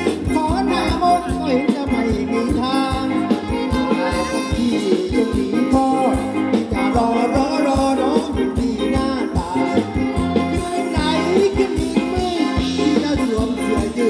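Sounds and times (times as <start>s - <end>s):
person singing with wavering voice: 0.0s - 14.0s
steady drum beat: 0.0s - 14.0s.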